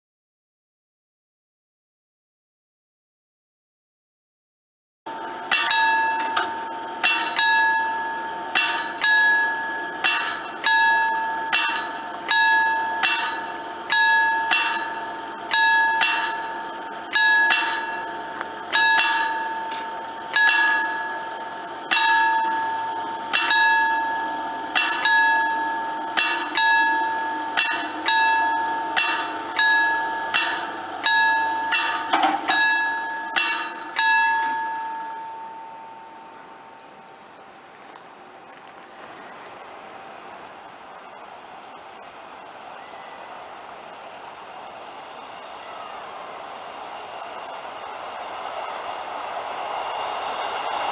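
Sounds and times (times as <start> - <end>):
level crossing warning bell: 5.1 - 50.9.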